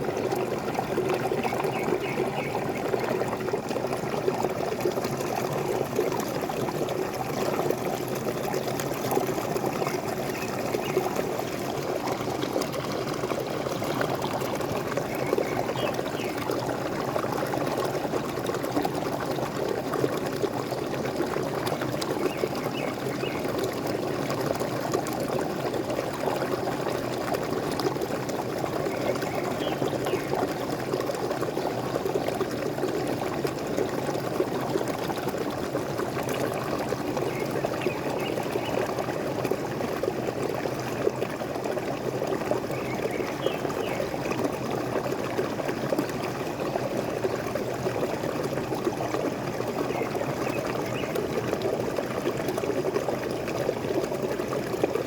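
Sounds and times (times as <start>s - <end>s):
waterfall pouring: 0.0s - 55.0s.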